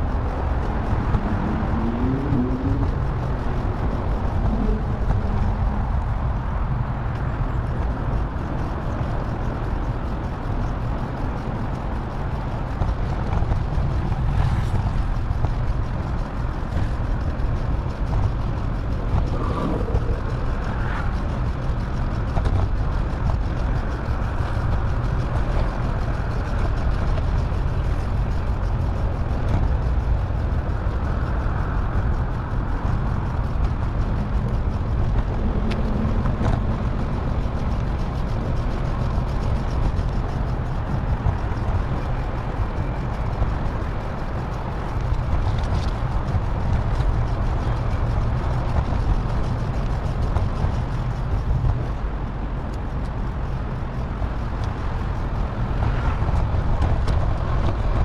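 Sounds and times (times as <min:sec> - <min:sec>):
road and traffic noise: 0:00.0 - 0:58.0
wind buffeting microphone: 0:00.0 - 0:58.0.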